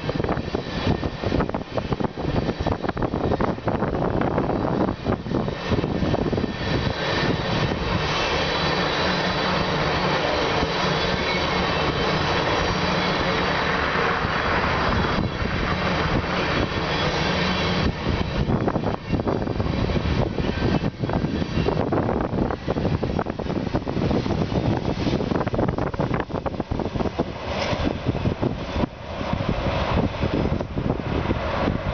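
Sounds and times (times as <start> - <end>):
freight train wheels rumbling: 0.0 - 31.9.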